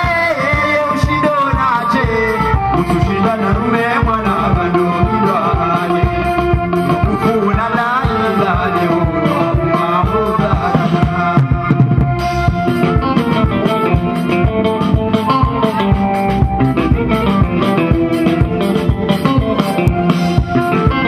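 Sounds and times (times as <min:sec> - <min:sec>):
fast drum beat: 0:00.0 - 0:21.0
held melody notes: 0:00.0 - 0:21.0
plucked strings: 0:00.0 - 0:21.0.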